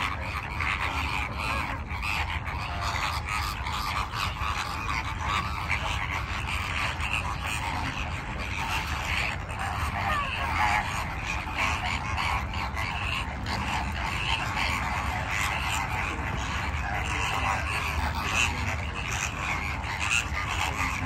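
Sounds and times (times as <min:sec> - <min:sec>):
flock of flamingos calling: 0:00.0 - 0:21.0.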